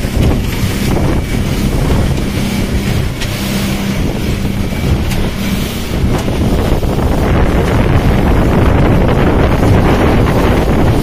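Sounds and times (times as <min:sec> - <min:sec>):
outboard motor running: 0:00.0 - 0:11.0
rush of wake and spray: 0:00.0 - 0:11.0
wind buffeting microphone: 0:00.0 - 0:11.0.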